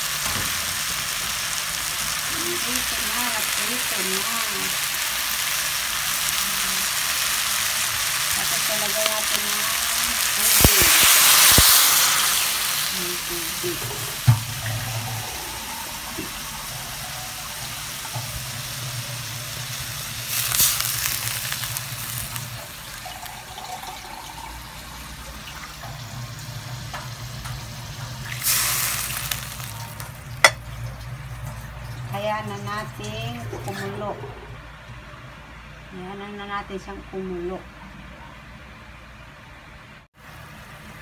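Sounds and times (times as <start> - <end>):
fish sizzling in a pot: 0.0 - 33.8.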